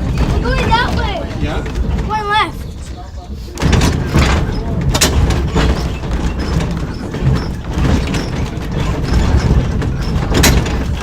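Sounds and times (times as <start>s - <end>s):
streetcar clicks: 0.0s - 11.0s
streetcar rumbling on track: 0.0s - 11.0s.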